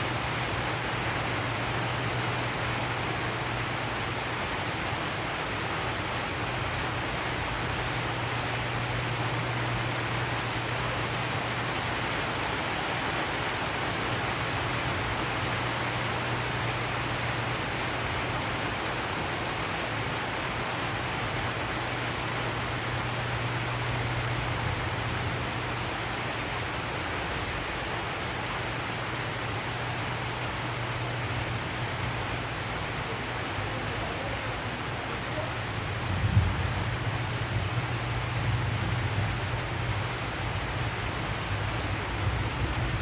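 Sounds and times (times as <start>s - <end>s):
rain on a metal roof: 0.0s - 43.0s.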